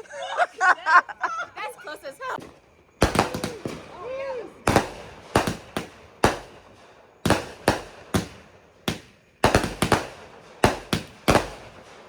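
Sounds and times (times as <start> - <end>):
fireworks banging: 2.3 - 12.0.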